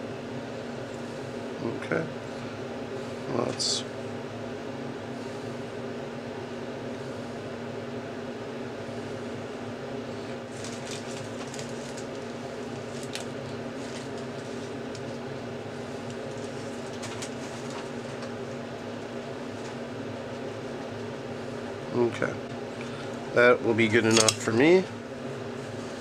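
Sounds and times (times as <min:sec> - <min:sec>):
electrical fan hum: 0:00.0 - 0:26.0.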